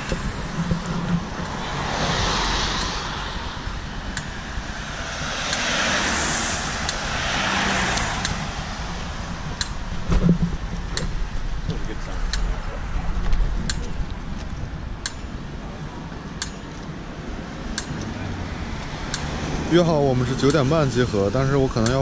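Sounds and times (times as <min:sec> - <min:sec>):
cars passing by: 0:00.0 - 0:22.0
low traffic rumble: 0:00.0 - 0:22.0.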